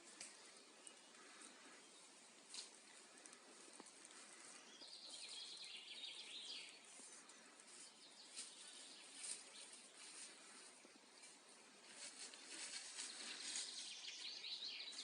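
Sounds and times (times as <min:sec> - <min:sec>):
faint crackles and ticks: 0:00.0 - 0:05.7, 0:06.4 - 0:13.9.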